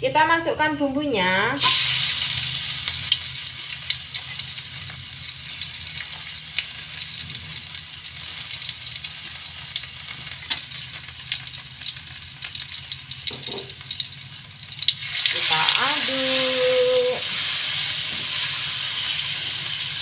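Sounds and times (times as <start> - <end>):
spice paste sizzling in oil: 1.6 - 20.0.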